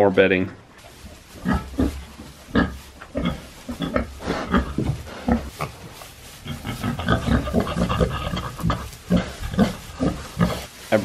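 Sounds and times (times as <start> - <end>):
pigs grunting: 1.3 - 10.8.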